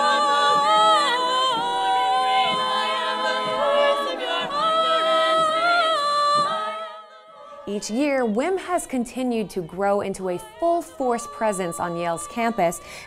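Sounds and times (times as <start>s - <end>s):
women singing a cappella harmony: 0.0s - 13.0s.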